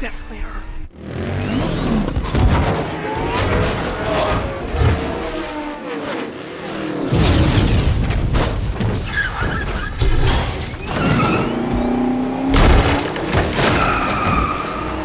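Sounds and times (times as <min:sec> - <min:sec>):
racing car engines: 0:00.0 - 0:15.0
tyres skidding: 0:00.7 - 0:15.0
car crashing: 0:01.0 - 0:15.0.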